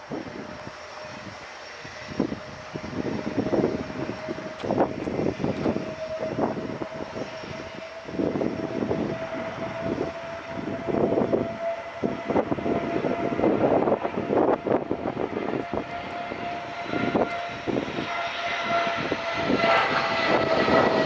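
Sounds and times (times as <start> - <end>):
jet engine whine and rumble: 0.0 - 21.0.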